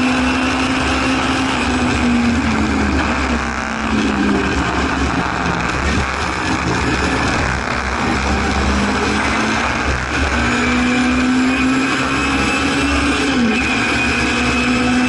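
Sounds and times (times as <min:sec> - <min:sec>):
race car engine from inside cabin: 0:00.0 - 0:15.0
road noise: 0:00.0 - 0:15.0.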